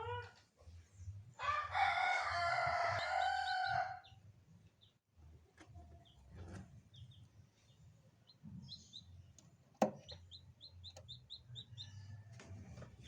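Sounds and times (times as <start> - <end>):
chicks peeping: 1.0 - 13.0.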